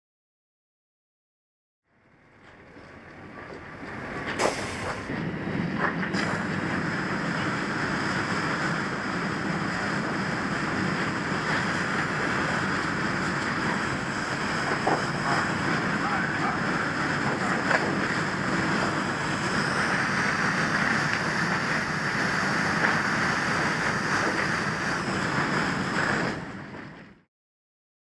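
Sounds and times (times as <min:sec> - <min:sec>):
water spraying from fire hose: 0:02.6 - 0:27.2.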